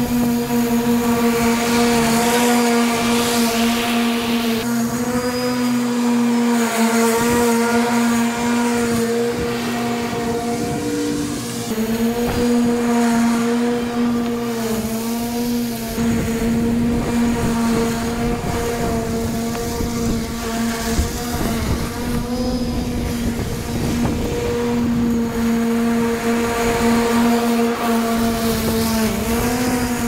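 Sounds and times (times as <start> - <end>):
crackle of grass being cut: 0.0 - 30.0
electric motor whine: 0.0 - 30.0.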